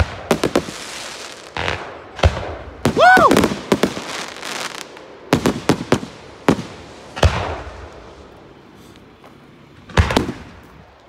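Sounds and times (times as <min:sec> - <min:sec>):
fireworks bangs echoing: 0:00.0 - 0:08.3, 0:09.8 - 0:10.8.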